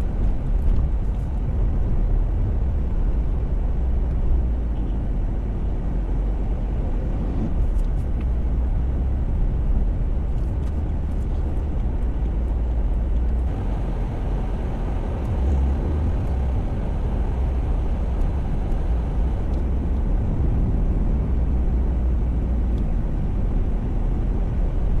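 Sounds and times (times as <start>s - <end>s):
car road rumble: 0.0s - 25.0s.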